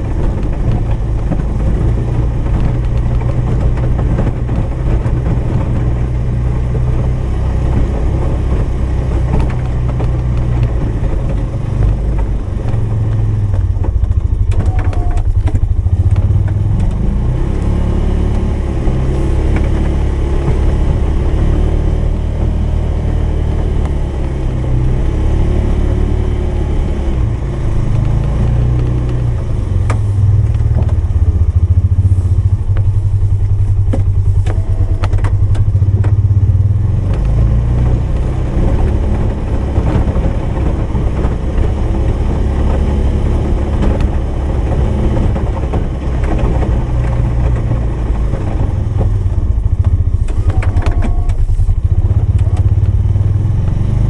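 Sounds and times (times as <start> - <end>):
clatter: 0.0 - 54.0
snowmobile engine running: 0.0 - 54.0.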